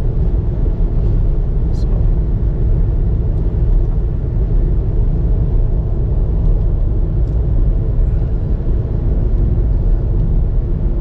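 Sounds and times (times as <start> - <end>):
moving car road and engine noise: 0.0 - 11.0.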